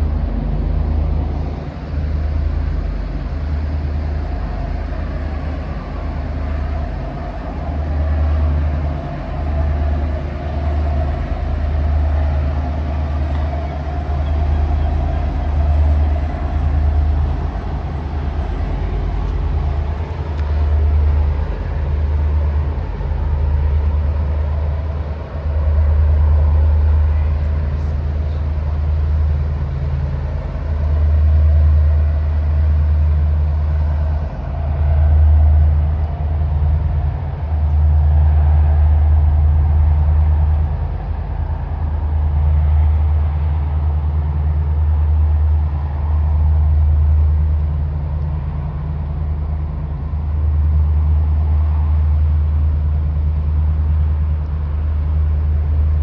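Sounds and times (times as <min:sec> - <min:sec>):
low hum: 0:00.0 - 0:56.0
wind buffeting microphone: 0:00.0 - 0:56.0.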